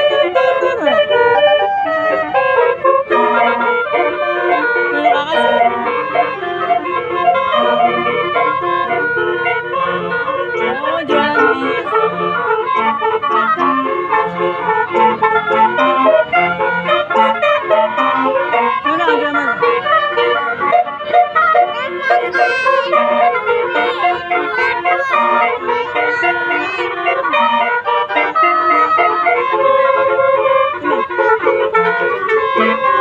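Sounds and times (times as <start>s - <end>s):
bus air horns playing melody: 0.0s - 33.0s.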